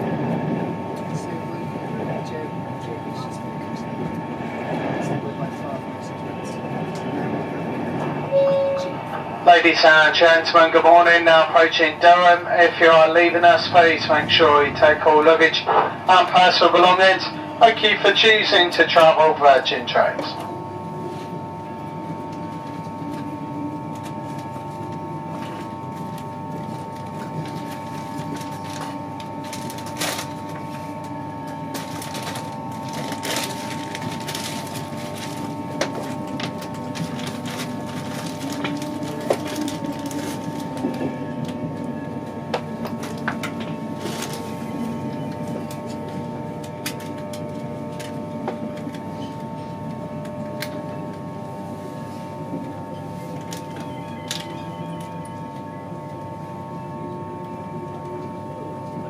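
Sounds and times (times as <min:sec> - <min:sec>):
train wheels rumbling on rail: 0:00.0 - 0:55.0
constant whine: 0:00.0 - 0:59.0.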